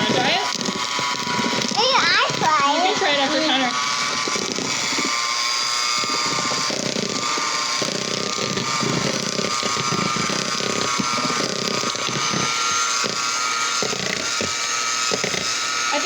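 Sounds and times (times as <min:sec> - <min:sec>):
electric hand mixer whine: 0:00.0 - 0:16.0.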